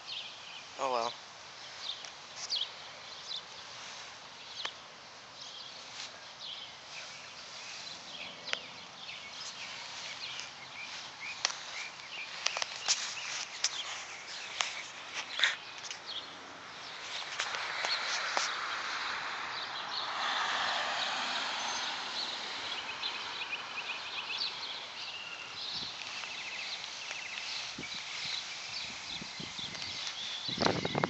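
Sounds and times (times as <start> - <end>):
rustling in grass: 0.1 - 19.4, 21.6 - 31.0.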